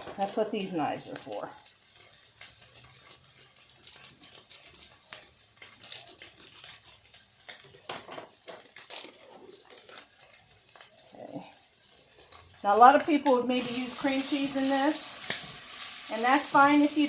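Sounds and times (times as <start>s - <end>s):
filling sizzling in frying pan: 0.0s - 17.0s.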